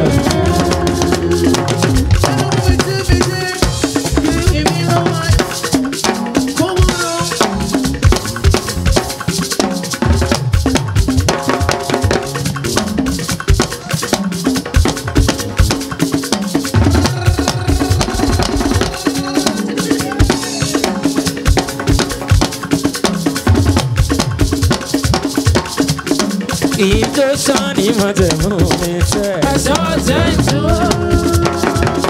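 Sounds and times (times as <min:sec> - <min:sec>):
drums in fast rhythm: 0:00.0 - 0:32.0
talking drums pitch sliding: 0:00.0 - 0:32.0.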